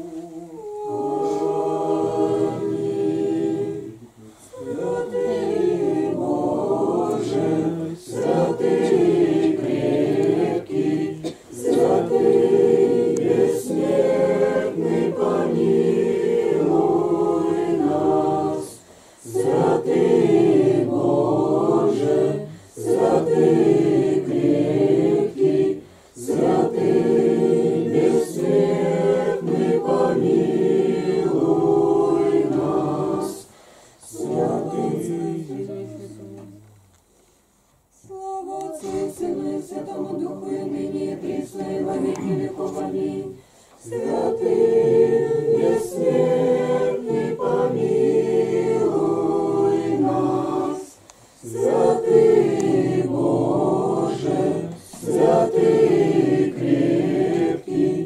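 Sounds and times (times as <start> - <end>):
choir chanting a cappella: 0.0 - 36.8, 37.9 - 58.0.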